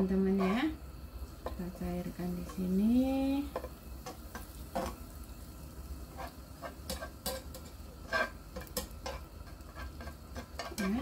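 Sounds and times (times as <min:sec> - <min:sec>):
butter sizzling in a pan: 0:00.0 - 0:11.0
spatula scraping pan: 0:00.0 - 0:11.0.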